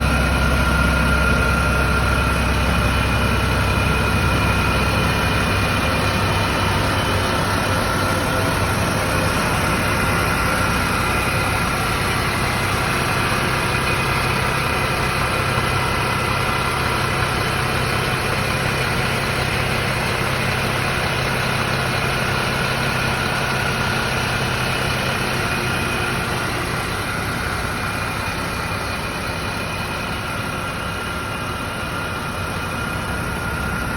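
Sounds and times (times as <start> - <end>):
bus diesel engine idling: 0.0 - 33.9.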